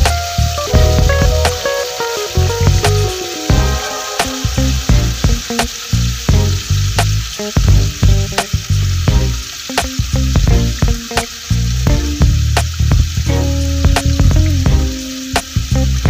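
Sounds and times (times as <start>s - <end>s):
background music with steady beat: 0.0s - 16.0s
meat sizzling in oil: 0.0s - 16.0s.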